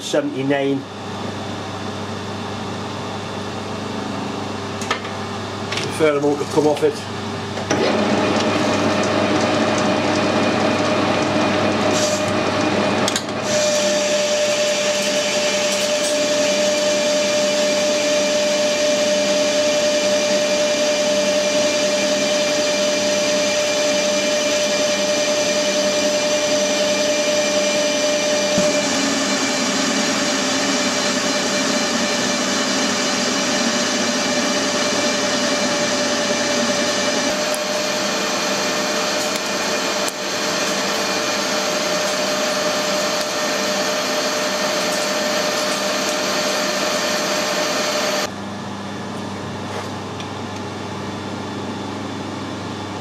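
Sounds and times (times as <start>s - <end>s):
constant machine whine: 0.0s - 53.0s
metal lathe machining: 1.4s - 48.3s.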